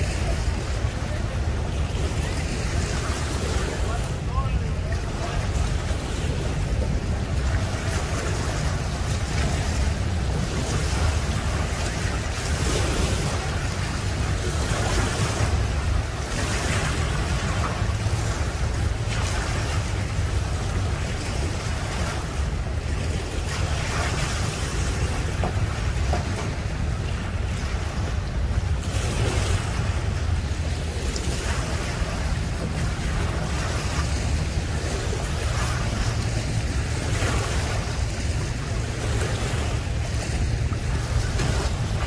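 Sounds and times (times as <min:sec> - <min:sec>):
waves breaking on concrete ramp: 0:00.0 - 0:42.0
wind rumble on microphone: 0:00.0 - 0:42.0.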